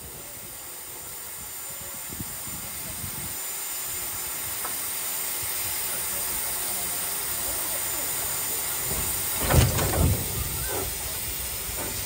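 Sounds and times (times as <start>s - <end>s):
steam blowing from drain cocks: 0.0s - 12.0s
steam locomotive hissing: 0.0s - 12.0s.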